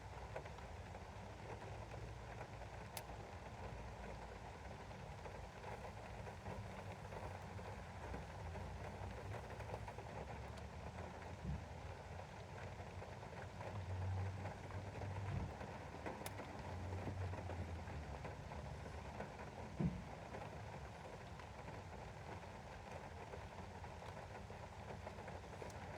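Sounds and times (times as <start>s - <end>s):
rain pattering on a window: 0.0s - 25.9s.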